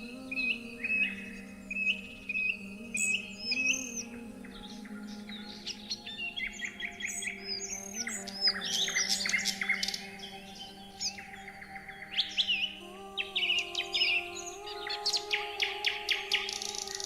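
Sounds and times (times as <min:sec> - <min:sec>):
soft background music: 0:00.0 - 0:17.0
songbirds chirping: 0:00.0 - 0:17.0.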